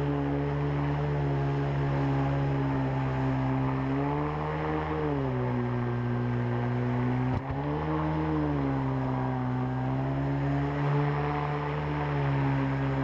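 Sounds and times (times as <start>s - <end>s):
boat outboard motor running: 0.0s - 13.0s.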